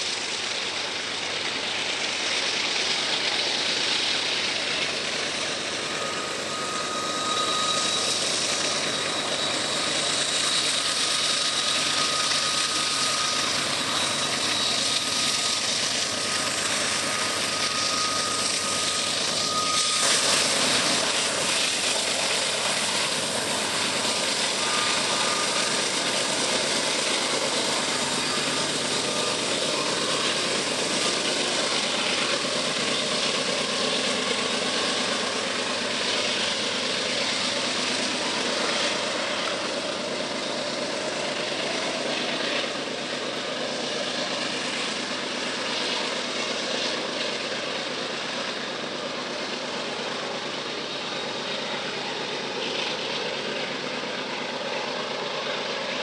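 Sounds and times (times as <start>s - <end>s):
diesel locomotives under load: 0.0s - 56.0s
freight cars rolling by: 0.0s - 56.0s
steady high whine: 0.0s - 56.0s.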